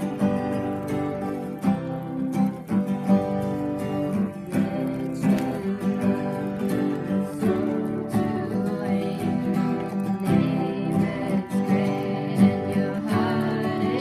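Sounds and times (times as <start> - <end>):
acoustic guitars strumming chords: 0.0 - 14.0.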